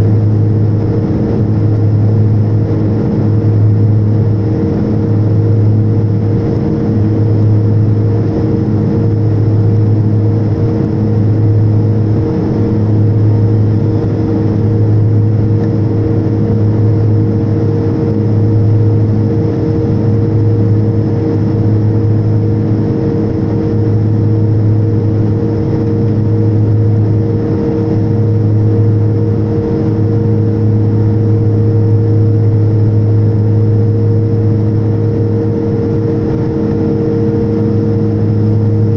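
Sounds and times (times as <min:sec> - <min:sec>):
turboprop engine drone: 0:00.0 - 0:38.9.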